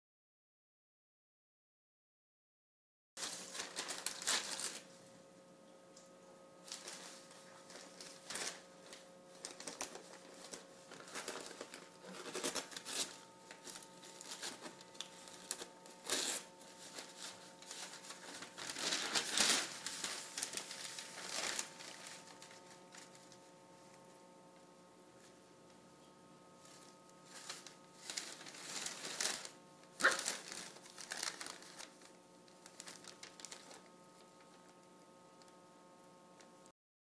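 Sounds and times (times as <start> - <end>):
faint steady hum: 3.2 - 36.7.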